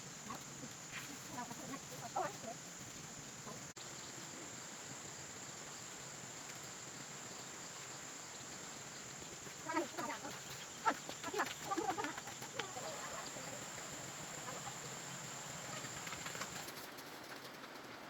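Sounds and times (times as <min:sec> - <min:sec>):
insects droning: 0:00.0 - 0:17.9.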